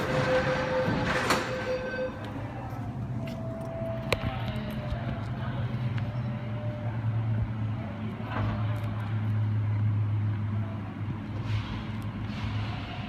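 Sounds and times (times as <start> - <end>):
train low hum: 0.0 - 13.0
train running rumble: 0.0 - 13.0.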